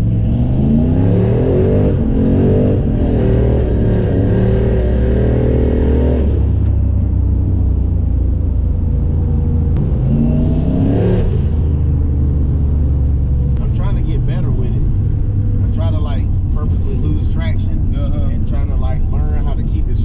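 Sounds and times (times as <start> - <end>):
car accelerating hard: 0.0 - 6.9, 9.3 - 20.0.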